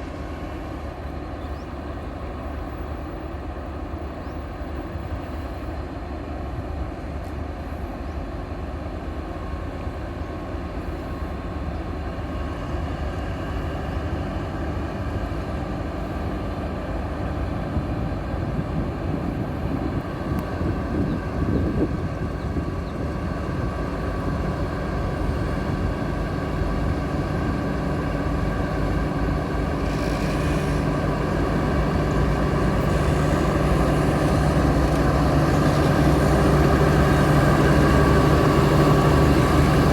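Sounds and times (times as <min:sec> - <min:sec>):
diesel locomotive engine humming: 0:00.0 - 0:39.9.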